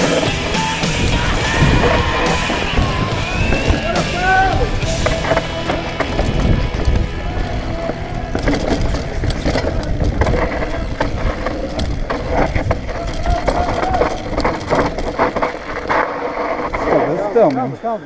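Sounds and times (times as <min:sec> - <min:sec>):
wind rushing over microphone: 0:00.0 - 0:16.8
bike rattling and knocking: 0:00.0 - 0:17.8
tyres rolling over dirt: 0:00.0 - 0:18.0.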